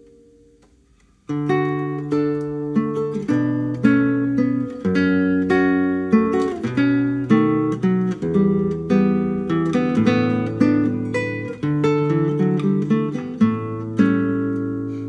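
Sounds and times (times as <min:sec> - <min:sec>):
classical guitar fingerstyle: 0:00.0 - 0:15.0.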